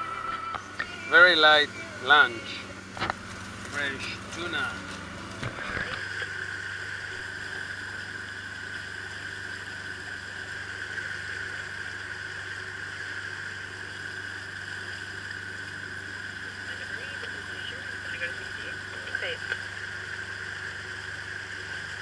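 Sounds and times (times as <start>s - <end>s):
boat engine droning: 0.0s - 22.0s
high engine whine: 0.0s - 22.0s.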